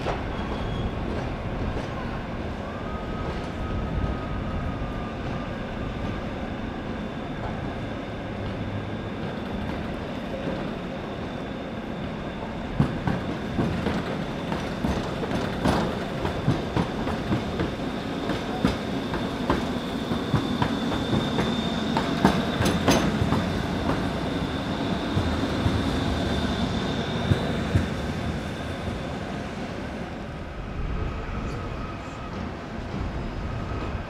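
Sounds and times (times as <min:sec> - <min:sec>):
tram rumbling past: 0:00.0 - 0:34.0.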